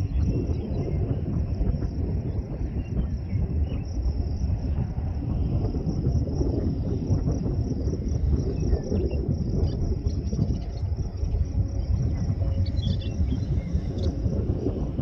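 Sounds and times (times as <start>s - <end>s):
insects trilling: 0.0s - 15.0s
uneven low rumble: 0.0s - 15.0s.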